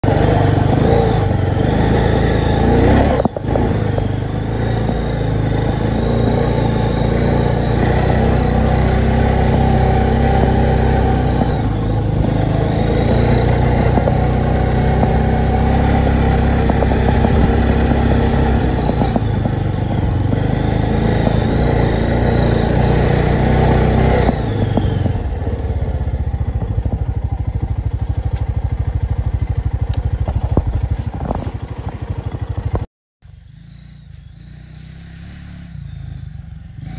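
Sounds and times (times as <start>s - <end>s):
quad bike engine running: 0.0s - 36.9s.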